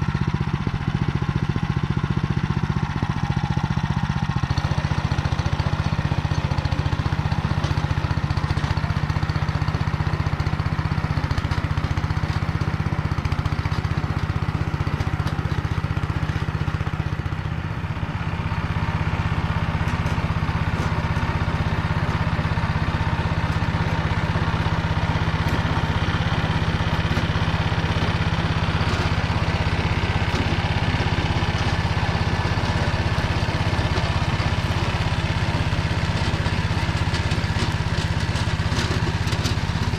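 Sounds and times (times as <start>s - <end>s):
tiller engine running under load: 0.0s - 39.9s.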